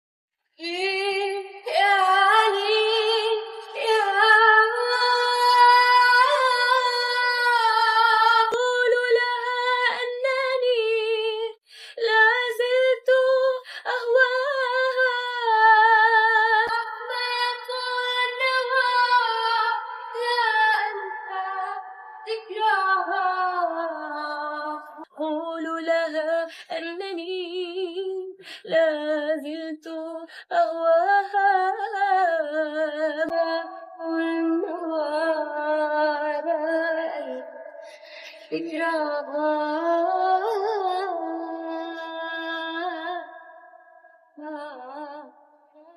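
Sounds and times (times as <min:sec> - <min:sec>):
woman singing unaccompanied: 0:00.6 - 0:37.5, 0:38.3 - 0:43.4.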